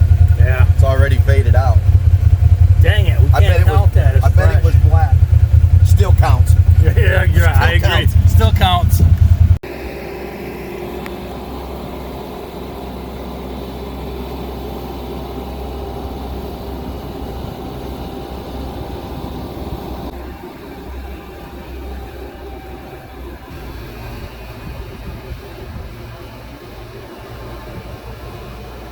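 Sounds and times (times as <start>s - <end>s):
vehicle engine humming: 0.0s - 28.9s.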